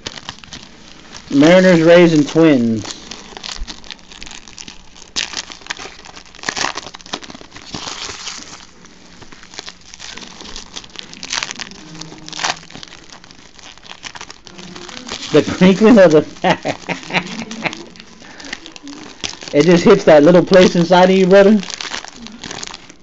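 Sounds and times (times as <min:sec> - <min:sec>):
foil wrappers crinkling and tearing: 0:00.0 - 0:23.0.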